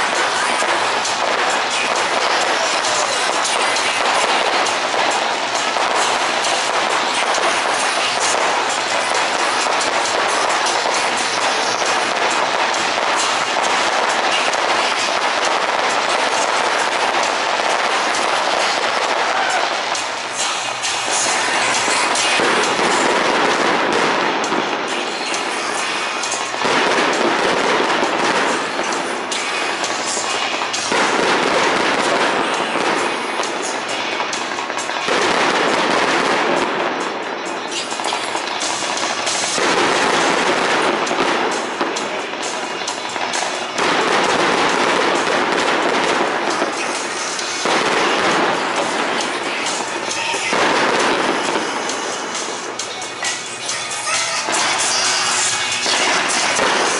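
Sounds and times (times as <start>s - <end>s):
fireworks crackling: 0.0s - 56.9s.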